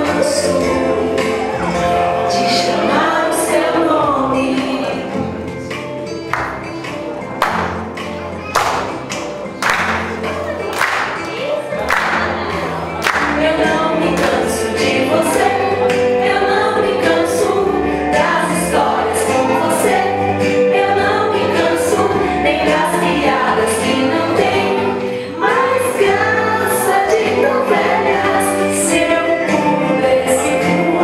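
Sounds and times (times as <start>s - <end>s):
song with voices singing: 0.0s - 31.0s.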